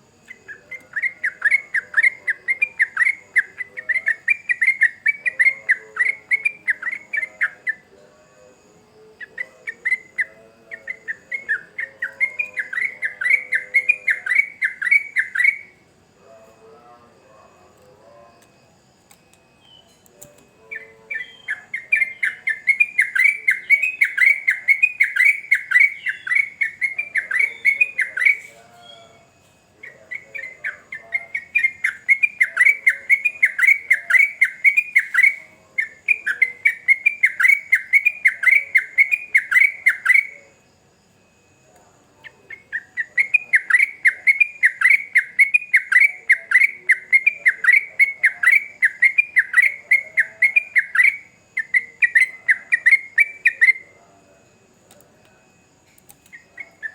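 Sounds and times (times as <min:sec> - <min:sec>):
bulbul singing chattering notes: 0:00.0 - 0:07.9, 0:08.5 - 0:15.8, 0:18.4 - 0:40.6, 0:42.2 - 0:54.0, 0:55.5 - 0:56.9.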